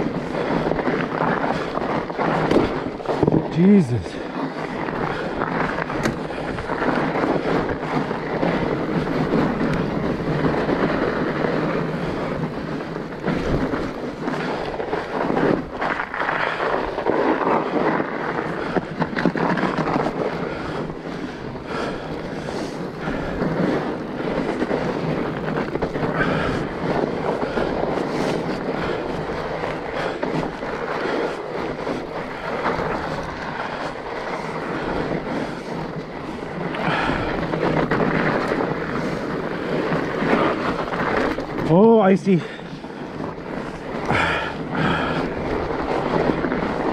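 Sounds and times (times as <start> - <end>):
bike rattling and clicking: 0.0 - 46.9
bike tyres rumbling on trail: 0.0 - 46.9.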